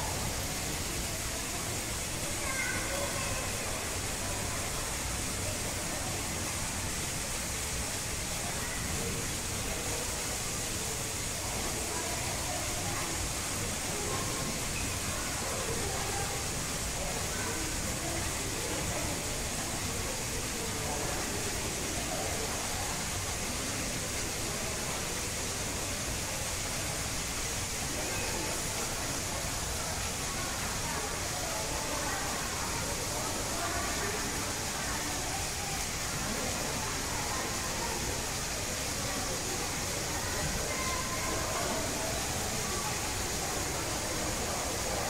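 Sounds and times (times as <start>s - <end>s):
faint voices talking: 0.0s - 45.0s
steady hiss: 0.0s - 45.0s.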